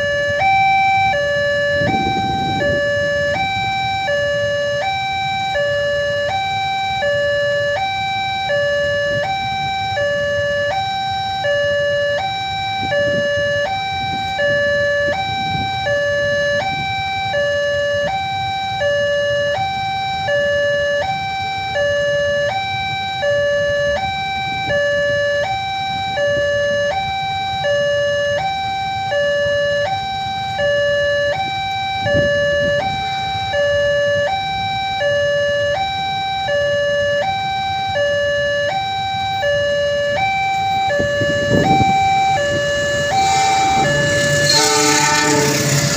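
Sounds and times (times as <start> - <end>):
two-tone level-crossing alarm: 0.0 - 45.9.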